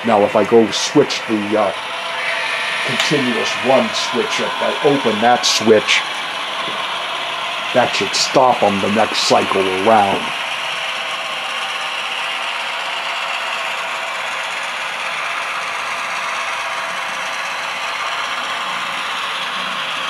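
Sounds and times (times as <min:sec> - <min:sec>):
model train motors whirring: 0:00.0 - 0:20.0
small-speaker engine sound effects: 0:00.0 - 0:20.0.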